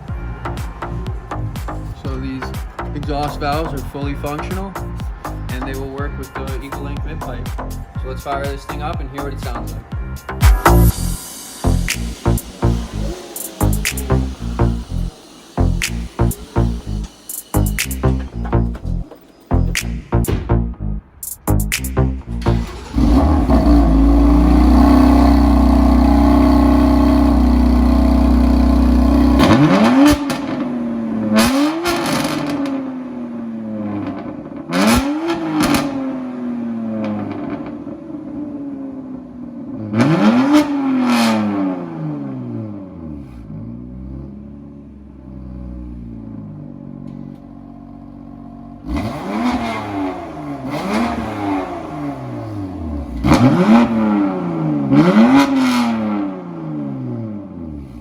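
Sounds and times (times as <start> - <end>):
car engine throttle blips: 0.0 - 32.9, 33.6 - 41.6, 43.1 - 56.5
car engine idling: 0.0 - 40.2, 42.7 - 56.2.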